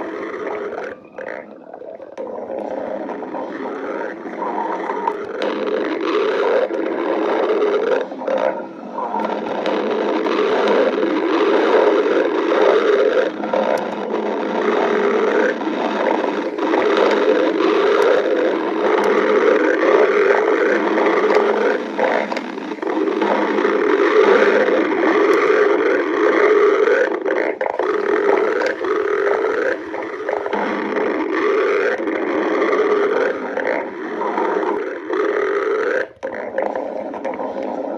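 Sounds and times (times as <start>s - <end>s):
stomach growling: 0.0s - 37.9s.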